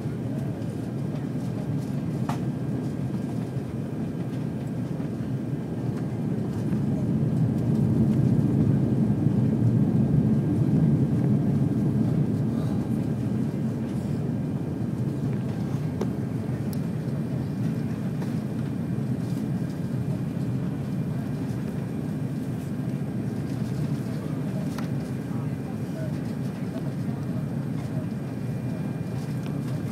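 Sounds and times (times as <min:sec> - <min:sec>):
jet engine rumble and rushing air: 0:00.0 - 0:29.9.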